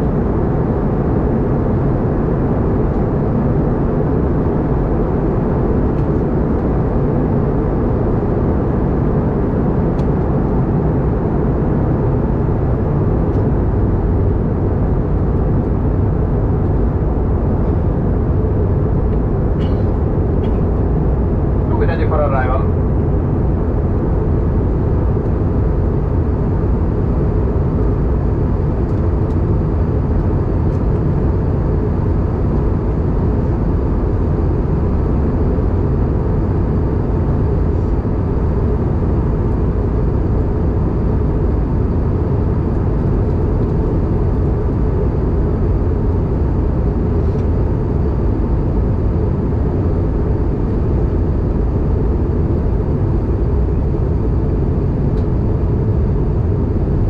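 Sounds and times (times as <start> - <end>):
faint steady hum: 0.0 - 57.0
jet engines and rushing air: 0.0 - 57.0.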